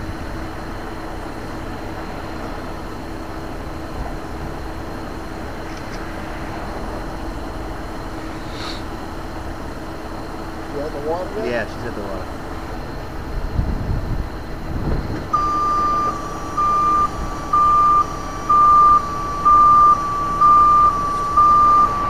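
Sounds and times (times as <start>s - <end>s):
tow truck engine running: 0.0s - 22.0s.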